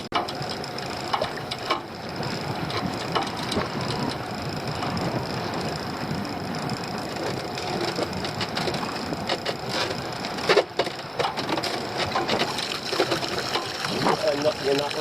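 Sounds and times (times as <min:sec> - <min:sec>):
boat running noise: 0:00.0 - 0:15.0.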